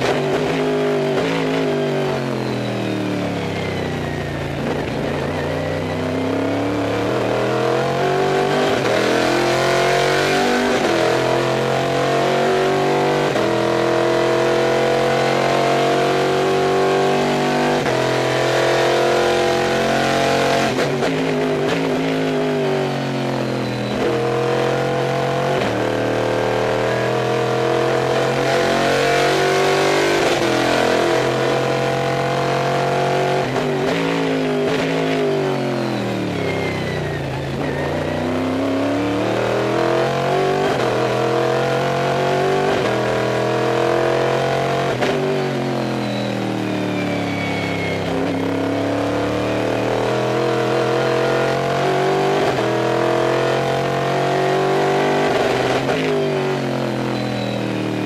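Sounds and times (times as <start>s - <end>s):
racing car engine revving: 0.0s - 2.5s, 3.2s - 58.0s.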